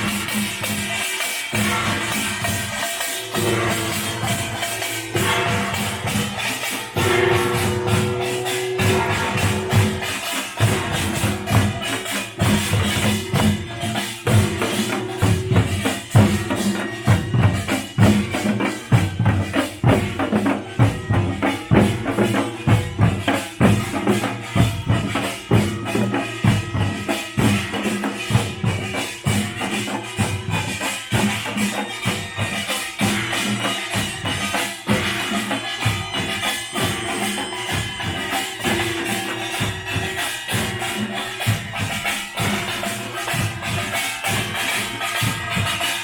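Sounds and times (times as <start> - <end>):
drums beating fast rhythm: 0.0 - 46.0
metallic clattering percussion: 0.0 - 46.0.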